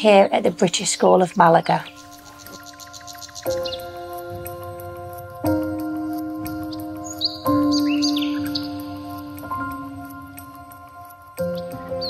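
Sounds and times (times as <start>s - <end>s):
soft background music chords: 0.0s - 12.0s.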